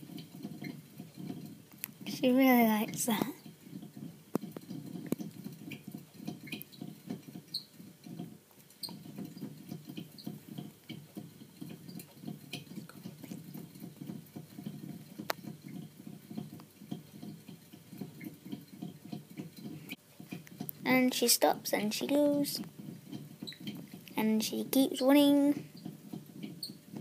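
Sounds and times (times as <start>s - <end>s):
rodent running in exercise wheel: 0.0s - 27.0s.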